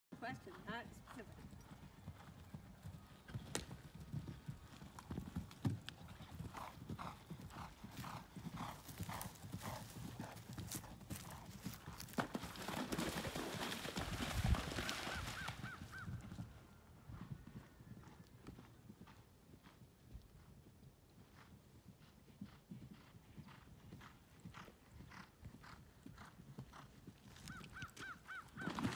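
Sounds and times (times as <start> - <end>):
horse hoofbeats: 0.2 - 28.9.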